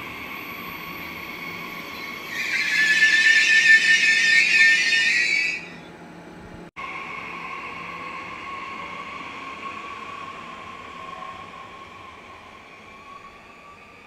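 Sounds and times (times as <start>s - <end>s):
train wheels squealing: 0.0s - 5.9s, 6.8s - 14.0s
electric whine of passing trains: 0.0s - 14.0s.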